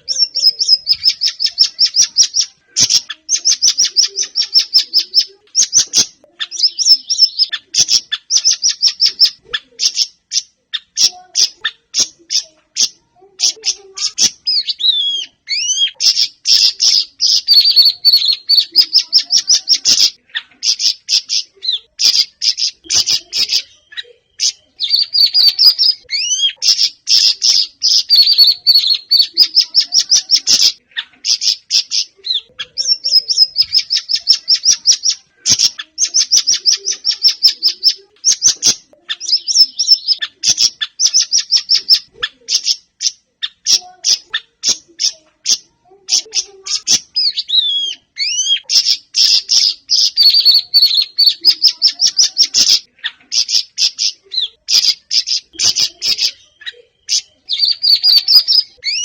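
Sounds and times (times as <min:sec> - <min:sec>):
songbird trilling chirps: 0:00.0 - 0:59.0.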